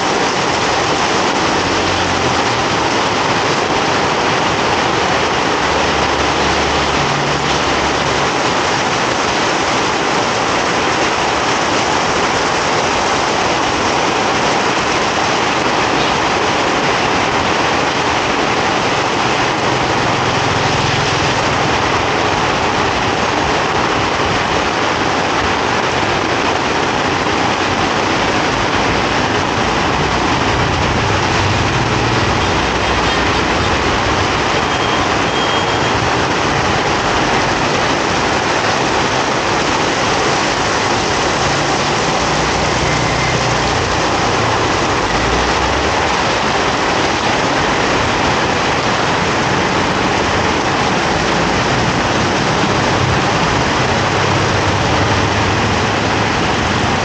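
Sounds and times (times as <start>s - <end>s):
heavy rain on pavement: 0.0s - 57.0s
passing traffic rumble: 0.0s - 57.0s.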